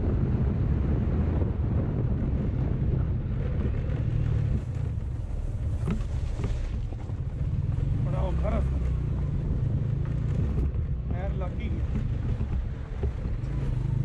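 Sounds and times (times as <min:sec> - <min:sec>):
motorcycle engine: 0:00.0 - 0:14.0
wind rush on microphone: 0:00.0 - 0:14.0.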